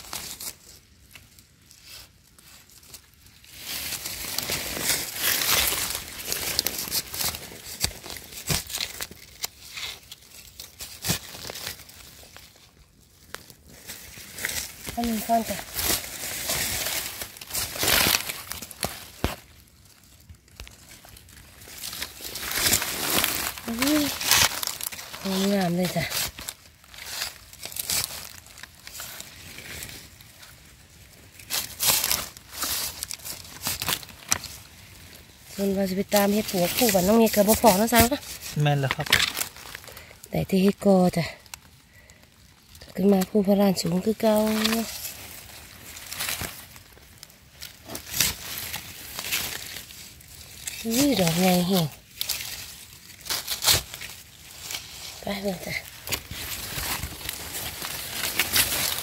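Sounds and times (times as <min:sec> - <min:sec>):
dry leaves crackling and rustling: 0:00.0 - 0:59.0.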